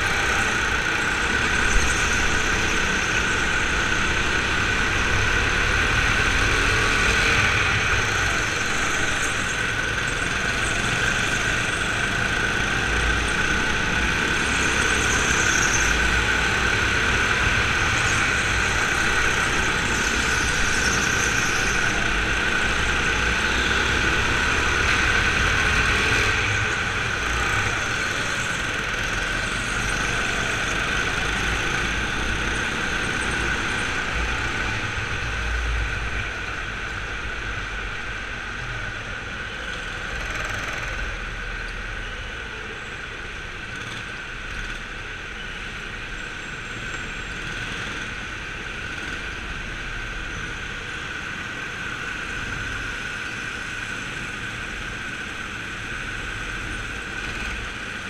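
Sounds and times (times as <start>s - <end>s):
go-kart engine drone: 0.0s - 58.0s.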